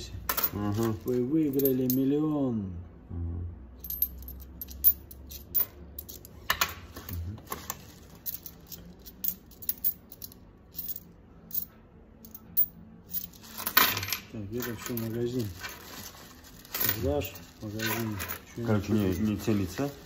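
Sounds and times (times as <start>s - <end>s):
metal coins clinking: 0.2s - 2.0s, 3.8s - 20.0s.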